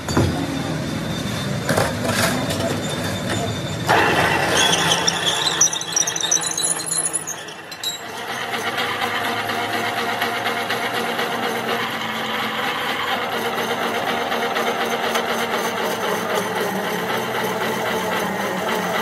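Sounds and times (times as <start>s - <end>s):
drill press boring metal: 1.5s - 19.0s.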